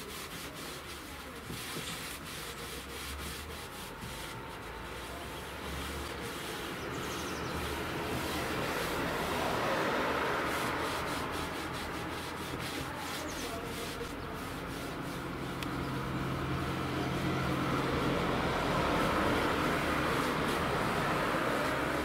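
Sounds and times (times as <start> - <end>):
cloth rubbing on wood: 0.0 - 22.0.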